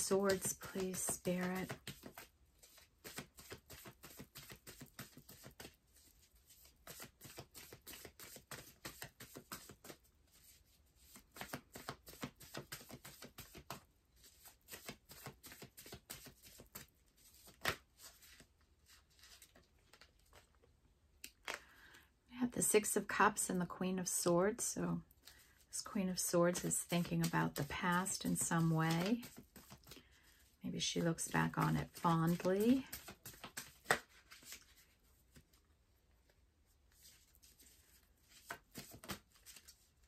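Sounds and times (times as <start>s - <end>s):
cards being shuffled: 0.0s - 20.6s, 25.2s - 35.6s, 36.9s - 40.0s.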